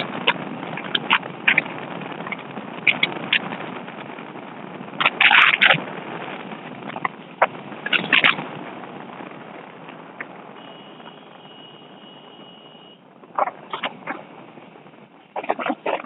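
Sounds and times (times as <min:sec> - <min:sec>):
bike road noise: 0:00.0 - 0:16.0
rushing wind: 0:00.0 - 0:16.0.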